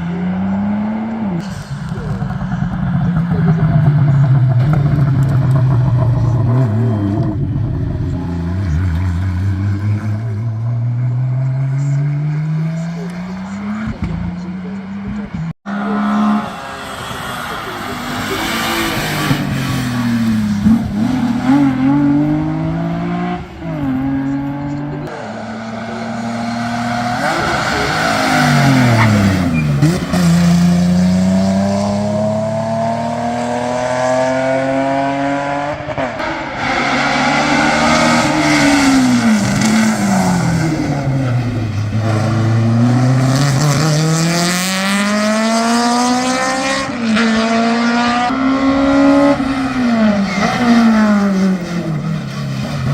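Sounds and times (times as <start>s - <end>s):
race car engine revving: 0.0s - 52.9s.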